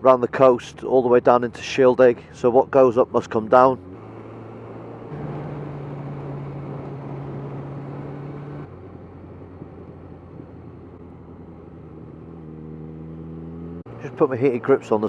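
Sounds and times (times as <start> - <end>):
motorcycle engine running: 2.1 - 15.0.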